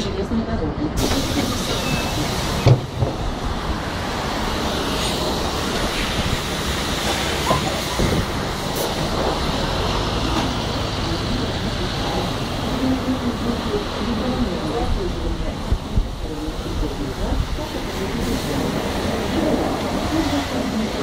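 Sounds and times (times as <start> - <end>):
bus engine idling: 0.0 - 21.0
street traffic: 0.0 - 21.0.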